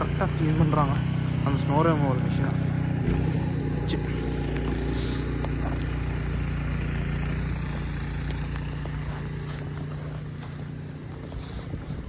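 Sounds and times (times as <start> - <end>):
snow removal machine motor hum: 0.0 - 12.0.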